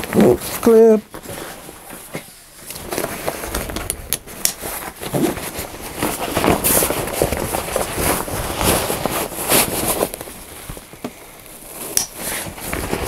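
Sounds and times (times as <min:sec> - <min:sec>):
nylon pack rustling: 0:00.0 - 0:13.0.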